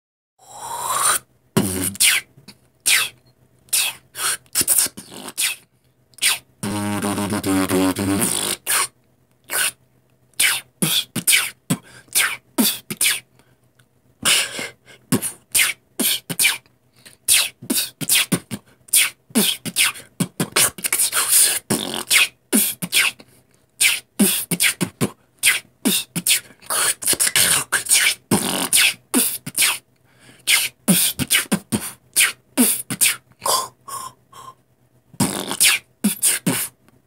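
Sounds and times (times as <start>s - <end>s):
man beatboxing: 0.6s - 5.6s, 6.2s - 13.3s, 14.2s - 23.2s, 23.8s - 29.8s, 30.4s - 34.5s, 35.2s - 36.8s.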